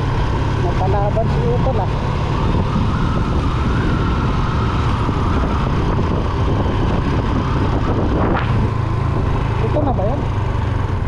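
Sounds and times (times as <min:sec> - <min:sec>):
wind rush on microphone: 0:00.0 - 0:10.5
motorcycle running: 0:00.0 - 0:11.0.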